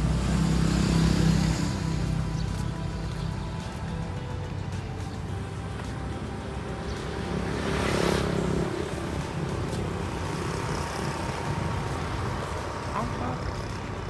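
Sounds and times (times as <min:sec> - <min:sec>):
motor vehicle passing: 0:00.0 - 0:04.0, 0:05.4 - 0:14.0.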